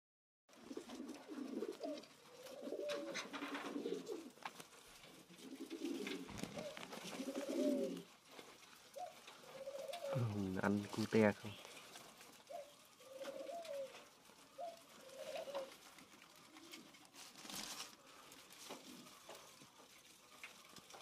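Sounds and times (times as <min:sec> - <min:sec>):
pigeons cooing: 0:00.5 - 0:21.0.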